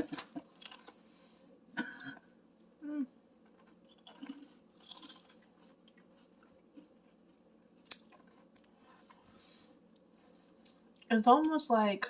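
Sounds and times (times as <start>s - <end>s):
chewing crispy crackers: 0.0s - 1.2s, 2.6s - 11.2s.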